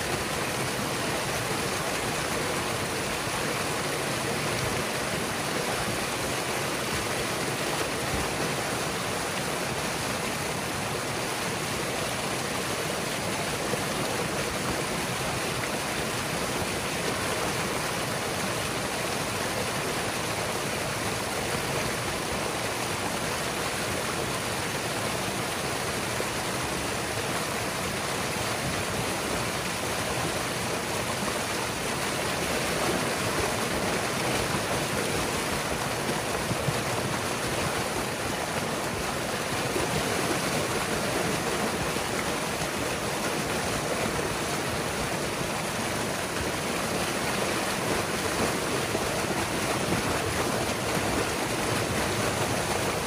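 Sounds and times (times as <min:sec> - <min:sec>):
water rushing down channel: 0:00.0 - 0:53.0.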